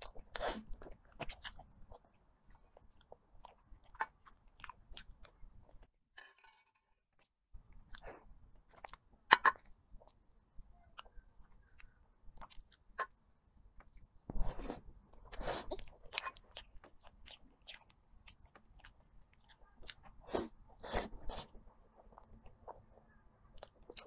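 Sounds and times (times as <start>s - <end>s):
chewing and mouth sounds: 0.0s - 5.9s, 7.7s - 24.0s.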